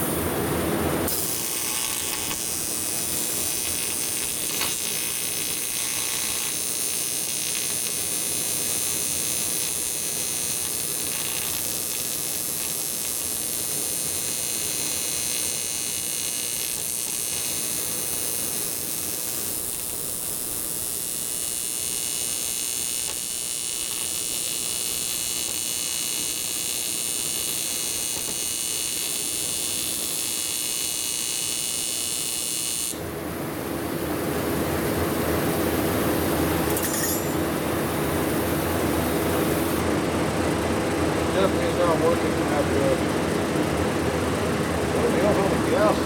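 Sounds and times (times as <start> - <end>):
welding arc buzzing: 0.0 - 40.7.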